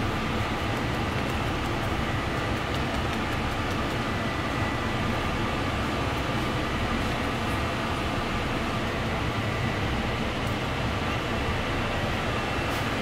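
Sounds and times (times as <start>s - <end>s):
kitchen machinery hum: 0.0s - 13.0s.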